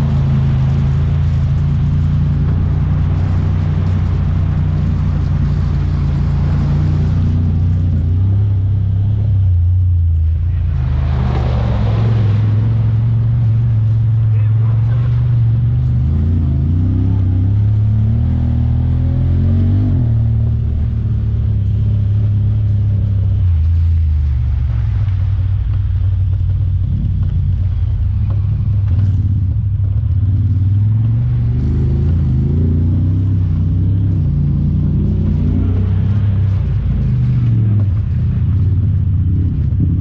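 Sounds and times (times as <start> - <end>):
engine revving up and down: 0.0 - 25.3, 26.8 - 40.0.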